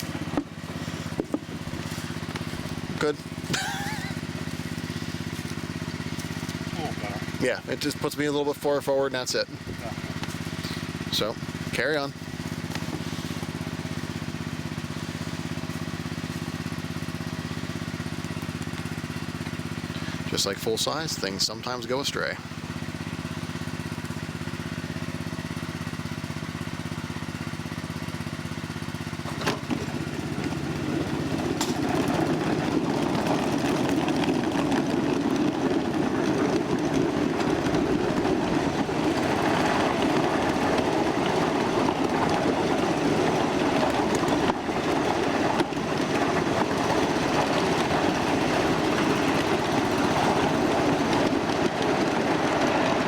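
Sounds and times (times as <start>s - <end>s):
miniature train hum: 0.0s - 53.0s
wheels rumbling on track: 0.0s - 53.0s.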